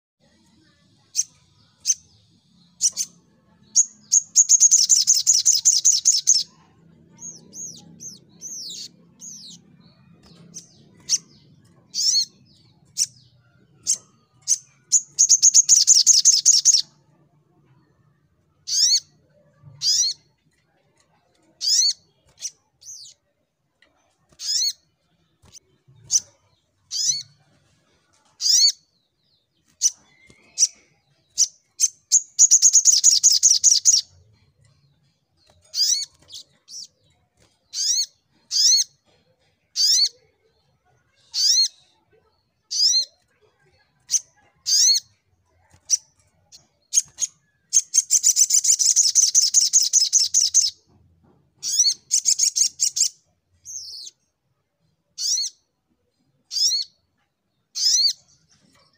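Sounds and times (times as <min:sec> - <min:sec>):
bird chirping: 0:00.2 - 0:58.9.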